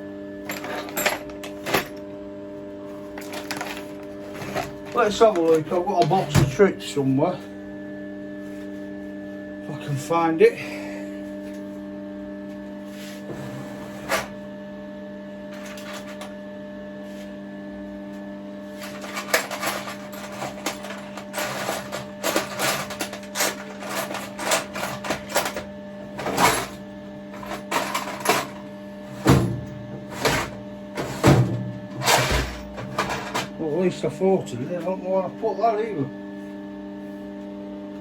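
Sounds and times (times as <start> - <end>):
steady background hum: 0.0 - 38.0.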